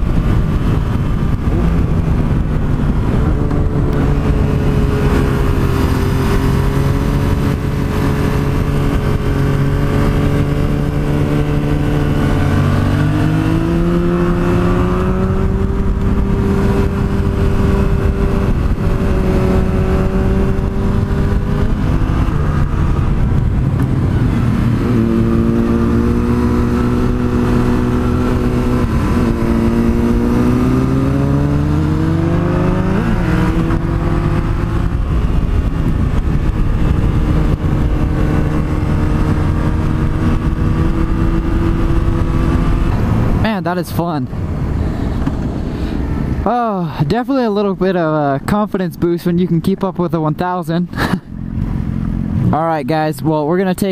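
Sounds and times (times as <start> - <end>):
wind rushing: 0.0 - 46.5.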